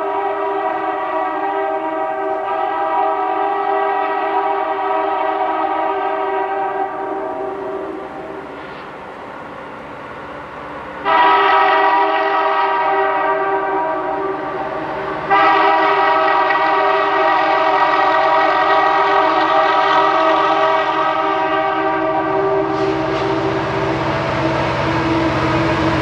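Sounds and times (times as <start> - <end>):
locomotive air horn blasts: 0.0 - 8.1, 11.0 - 26.0
low rumble of locomotives: 0.0 - 26.0.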